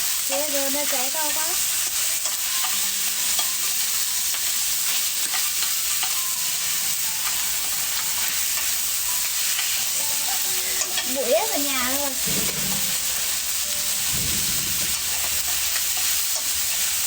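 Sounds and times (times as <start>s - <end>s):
wood fire hissing and crackling: 0.0s - 17.0s.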